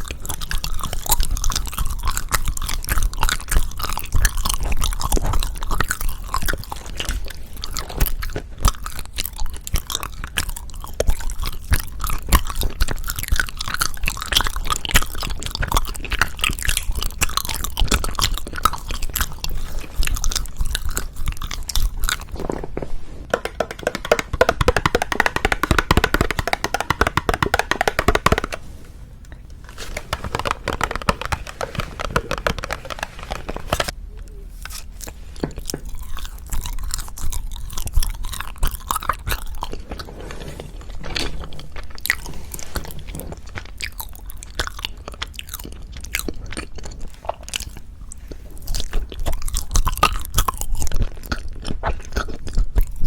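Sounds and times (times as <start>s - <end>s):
chewing and crunching sweets: 0.0s - 53.0s.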